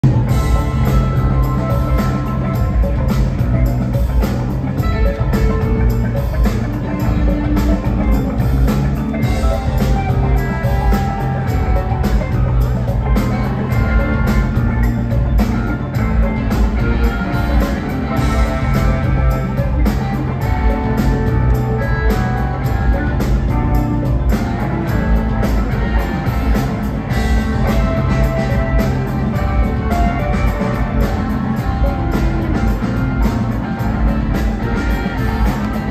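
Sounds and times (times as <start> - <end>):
rock band playing live: 0.0 - 35.9
steady drum beat: 0.0 - 35.9.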